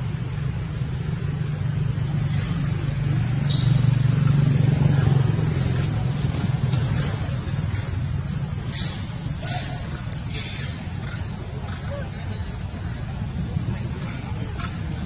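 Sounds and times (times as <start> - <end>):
motor vehicle engine drone: 0.0 - 15.0.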